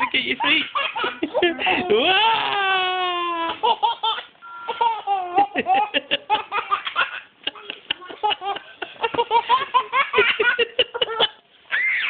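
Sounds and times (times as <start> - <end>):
toddler giggling: 0.0 - 2.1, 3.0 - 11.4.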